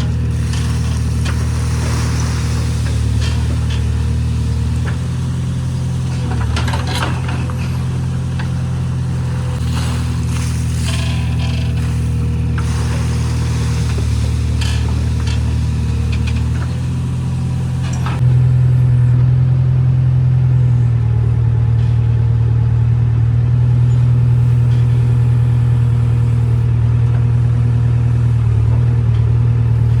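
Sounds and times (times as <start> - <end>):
diesel engine low drone: 0.0 - 30.0.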